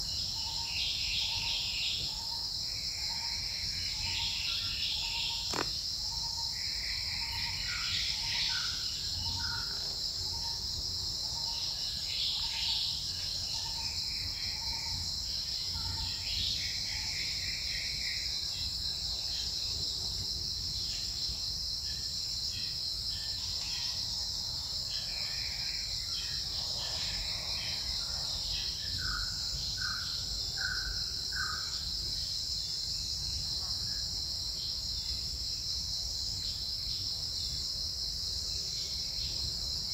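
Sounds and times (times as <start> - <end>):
forest insect chorus: 0.0 - 39.9.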